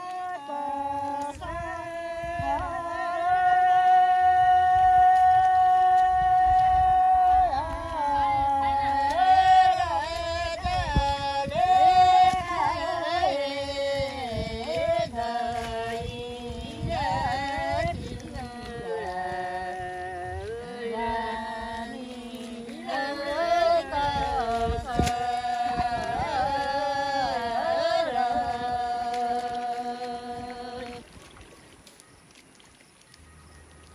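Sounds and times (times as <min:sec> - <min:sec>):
women singing slow song: 0:00.0 - 0:31.2.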